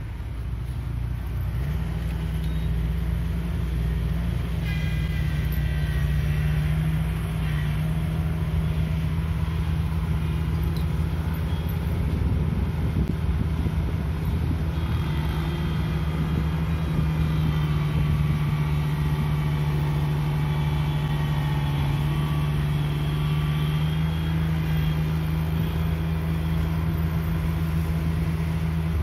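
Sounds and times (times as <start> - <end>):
small engine straining: 0.0 - 29.0.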